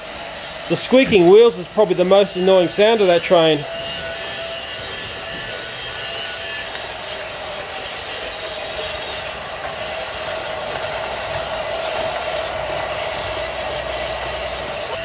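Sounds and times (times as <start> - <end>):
toy train motor whine: 0.0 - 15.0.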